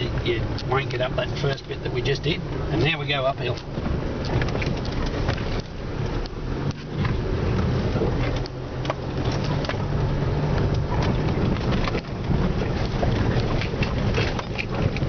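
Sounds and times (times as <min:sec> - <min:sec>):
vehicle engine pulling uphill: 0:00.0 - 0:15.0
vehicle knocks and rattles: 0:02.5 - 0:15.0.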